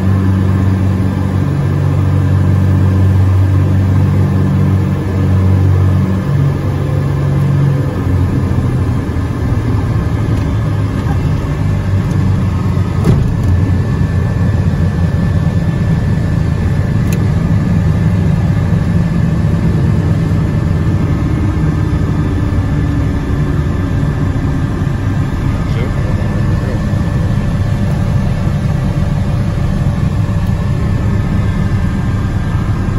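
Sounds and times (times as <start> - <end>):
aircraft engine drone: 0.0 - 32.9
steady high whine: 0.0 - 32.9.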